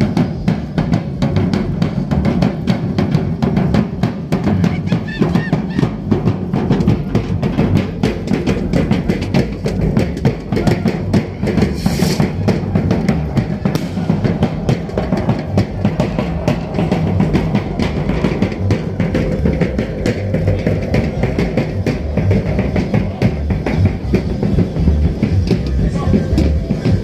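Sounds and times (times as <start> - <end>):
drum-driven dance music: 0.0 - 27.0.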